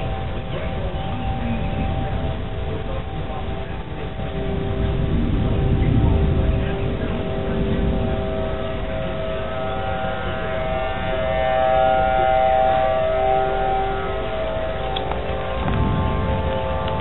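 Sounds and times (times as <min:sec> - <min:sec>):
warning sirens wailing: 0:00.0 - 0:17.0.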